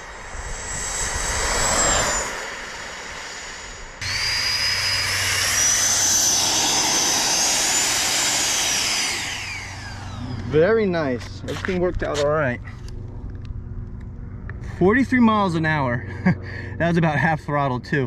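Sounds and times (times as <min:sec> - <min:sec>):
electric ducted fan whine: 0:00.0 - 0:18.0.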